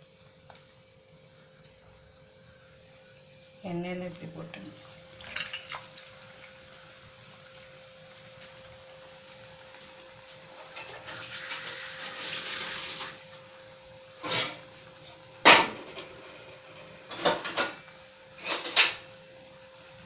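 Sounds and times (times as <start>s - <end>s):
soft hiss: 0.0s - 20.0s.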